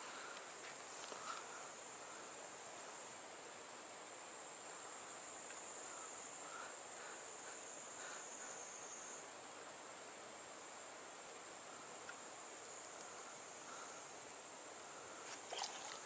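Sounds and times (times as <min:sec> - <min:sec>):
faint soft insect calls: 0:00.0 - 0:16.0
high-pitched insect chorus: 0:00.0 - 0:16.0.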